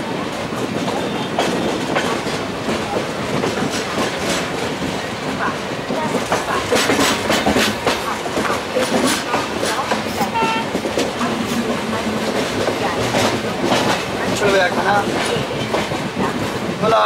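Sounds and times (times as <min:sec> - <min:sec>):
clickety-clack of wheels: 0:00.0 - 0:17.0
train rumble on track: 0:00.0 - 0:17.0.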